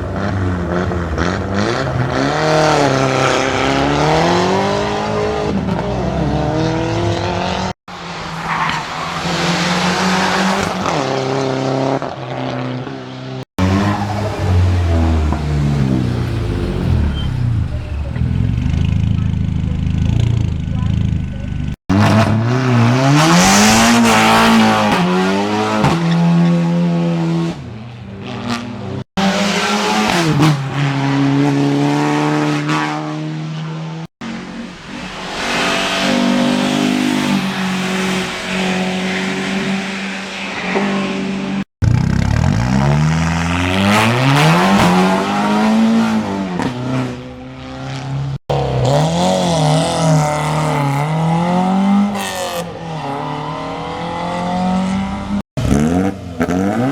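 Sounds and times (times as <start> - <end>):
race car engines revving hard: 0.0 - 56.9.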